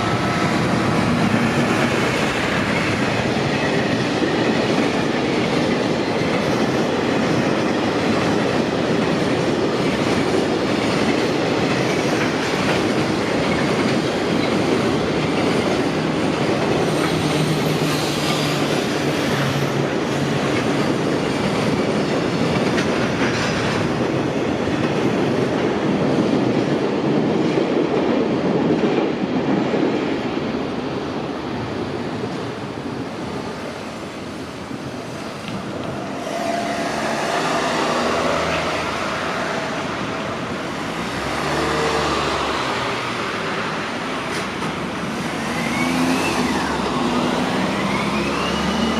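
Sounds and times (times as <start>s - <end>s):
train wheels clattering over rail joints: 0.0s - 26.8s, 33.2s - 48.9s.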